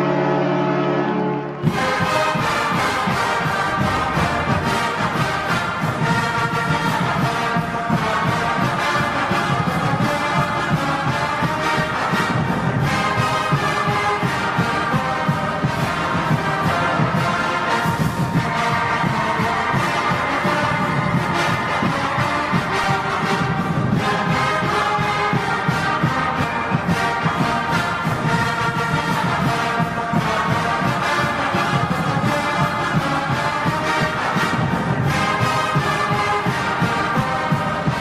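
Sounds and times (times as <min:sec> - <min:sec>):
brass band music: 0:00.0 - 0:38.0
goal horn: 0:00.0 - 0:38.0.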